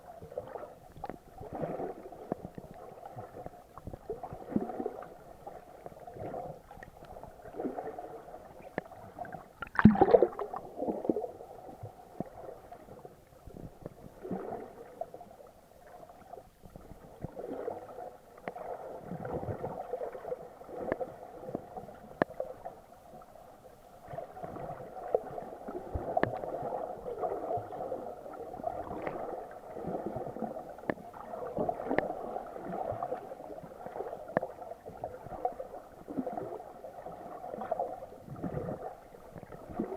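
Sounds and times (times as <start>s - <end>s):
muffled water sloshing: 0.0s - 39.9s.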